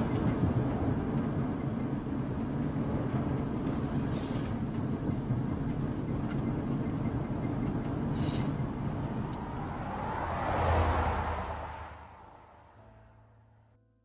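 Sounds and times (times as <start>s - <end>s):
car engine rumble: 0.0s - 13.7s
road noise: 0.0s - 13.9s.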